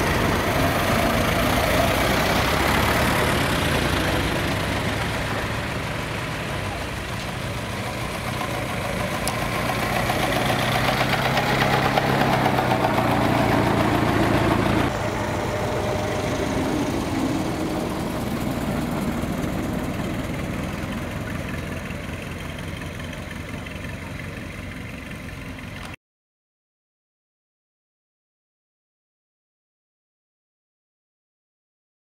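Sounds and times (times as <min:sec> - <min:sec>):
old car engines driving past: 0:00.0 - 0:26.0.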